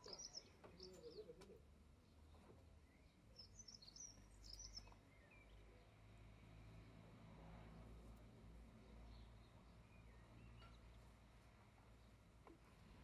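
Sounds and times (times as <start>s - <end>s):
small birds chirping: 0.0s - 6.1s, 8.7s - 13.0s.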